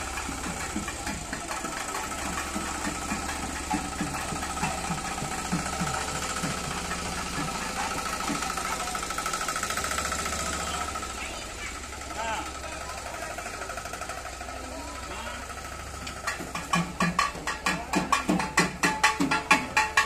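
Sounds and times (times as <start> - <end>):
crowd voices: 0.0 - 20.0
diesel engine chugging unevenly: 0.0 - 20.0.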